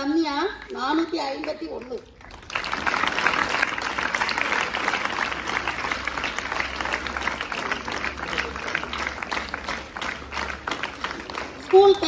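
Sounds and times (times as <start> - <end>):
audience clapping: 1.4 - 12.0.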